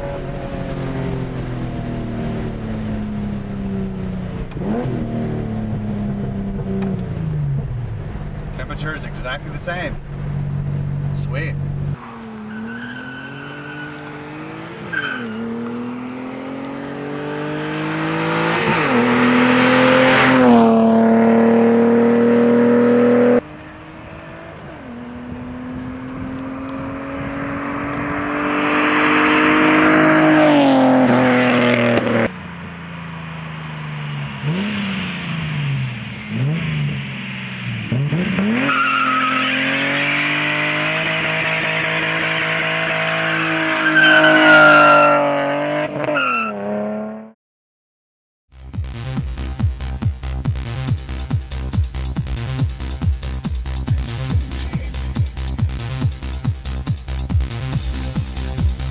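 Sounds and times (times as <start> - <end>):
engine rev blips: 0.0 - 47.3
car engine accelerating through gears: 0.0 - 47.4, 50.7 - 58.9.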